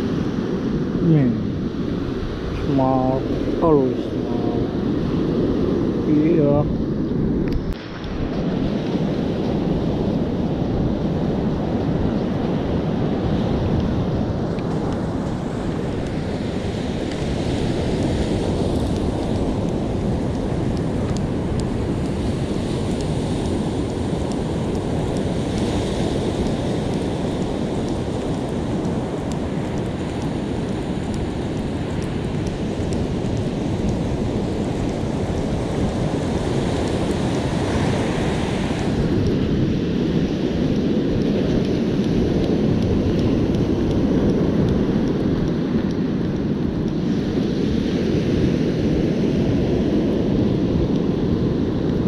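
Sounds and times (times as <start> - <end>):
wind on microphone: 0.0 - 52.0.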